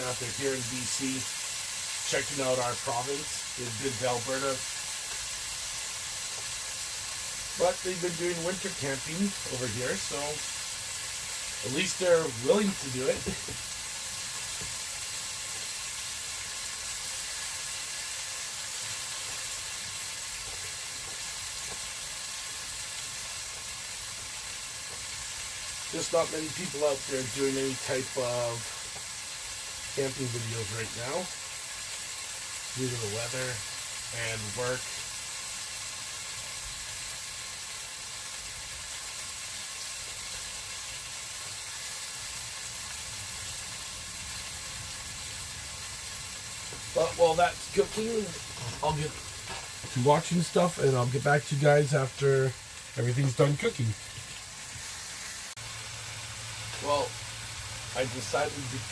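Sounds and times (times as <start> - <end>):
kebabs sizzling: 0.0 - 58.9.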